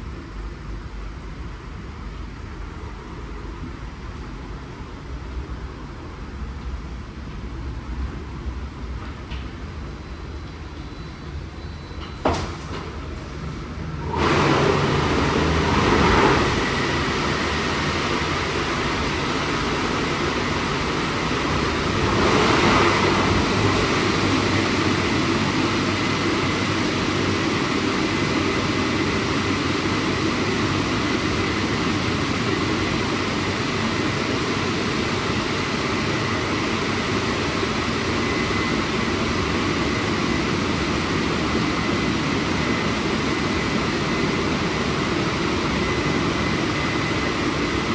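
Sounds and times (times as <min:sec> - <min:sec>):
car wash drying blowers: 0:00.0 - 0:47.9.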